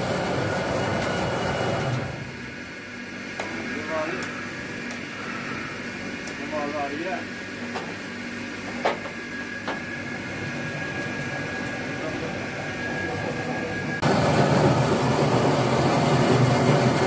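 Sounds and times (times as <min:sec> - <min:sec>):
drilling rig hum: 0:00.0 - 0:17.0
loud steady machine noise: 0:00.0 - 0:17.0.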